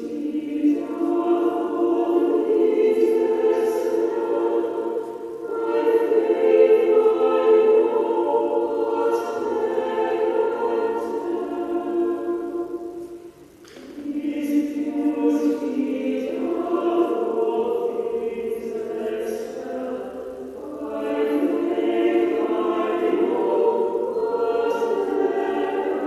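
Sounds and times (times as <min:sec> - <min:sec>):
choir singing slow phrases: 0:00.0 - 0:26.0.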